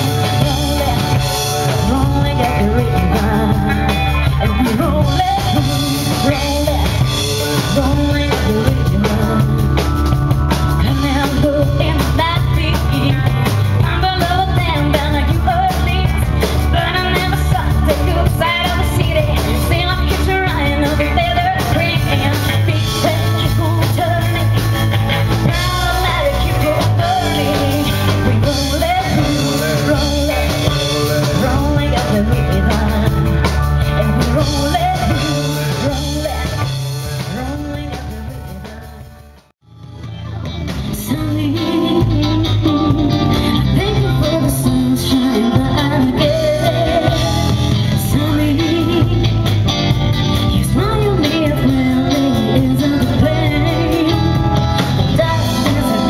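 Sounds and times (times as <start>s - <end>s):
woman singing lead: 0.0s - 39.4s, 40.0s - 56.0s
live rock band playing: 0.0s - 56.0s.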